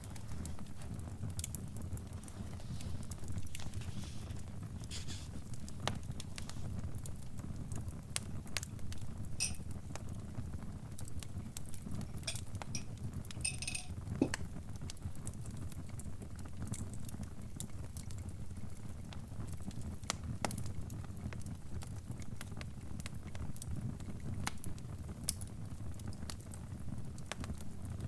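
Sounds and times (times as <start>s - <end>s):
low rumble of burning: 0.0s - 28.0s
wood fire crackling: 0.0s - 28.0s.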